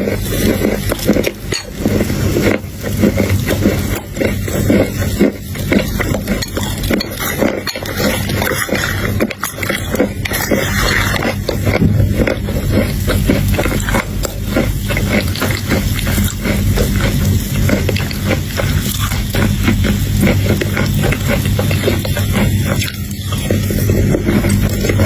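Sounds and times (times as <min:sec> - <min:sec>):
chocolate crunching and chewing: 0:00.0 - 0:25.0.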